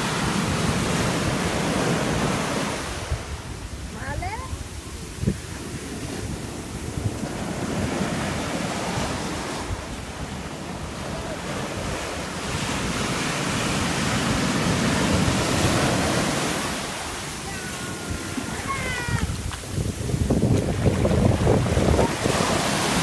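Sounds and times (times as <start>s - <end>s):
ocean surf breaking: 0.0s - 23.0s
wind buffeting microphone: 0.0s - 23.0s.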